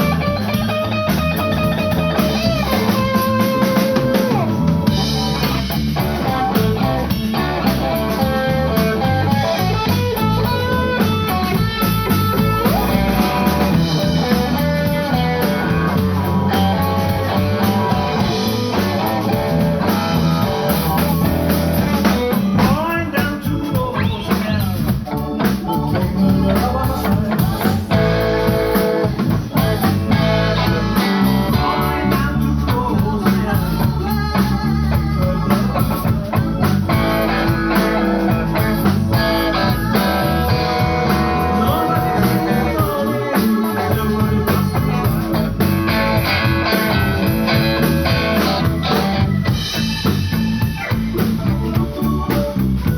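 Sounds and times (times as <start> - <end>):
drum kit: 0.0 - 52.9
electric guitar lines: 0.0 - 52.9
person singing: 0.0 - 52.9.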